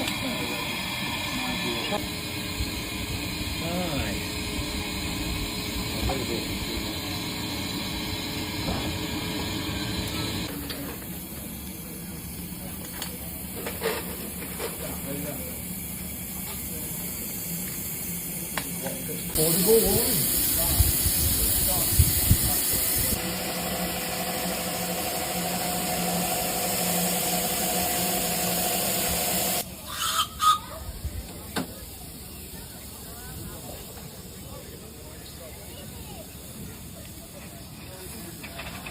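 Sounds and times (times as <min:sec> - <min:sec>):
locomotive humming and hissing: 0:00.0 - 0:38.9.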